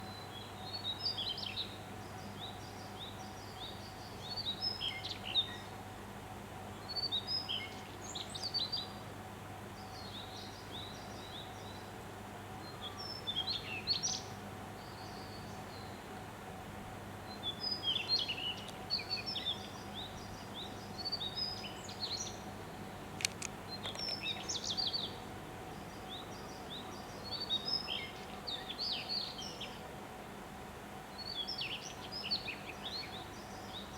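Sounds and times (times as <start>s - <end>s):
bird chirping song: 0.0s - 5.8s, 6.8s - 9.0s, 9.8s - 11.9s, 12.6s - 16.0s, 17.3s - 29.8s, 31.1s - 33.9s
faint steady hum: 0.0s - 33.9s.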